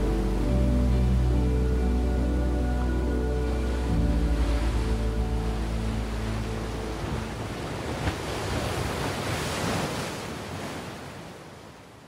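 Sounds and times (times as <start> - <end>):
ocean waves breaking: 0.1 - 12.0.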